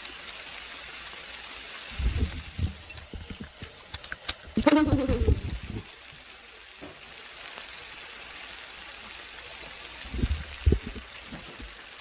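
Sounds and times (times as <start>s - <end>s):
beef sizzling on a grill: 0.0s - 12.0s.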